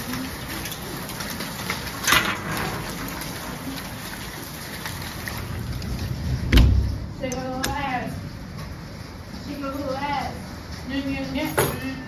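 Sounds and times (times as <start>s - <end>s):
rain hissing: 0.0s - 11.2s.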